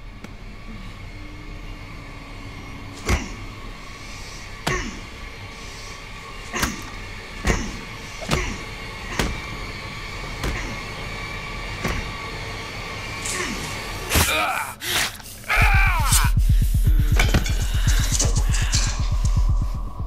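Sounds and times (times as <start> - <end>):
steady droning hum: 0.0 - 20.0.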